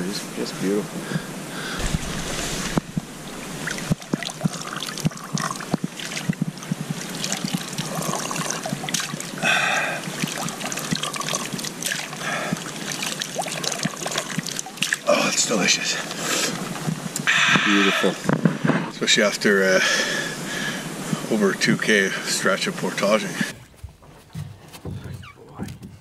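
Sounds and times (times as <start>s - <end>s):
water trickling and splashing: 0.0s - 23.6s.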